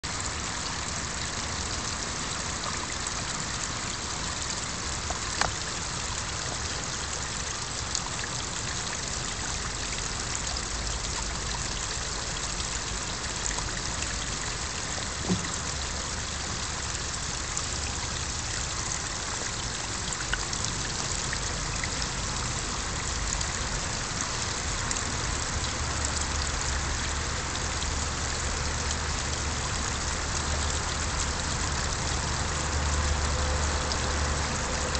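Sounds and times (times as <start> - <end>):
small waterfall splashing into pond: 0.0 - 34.9.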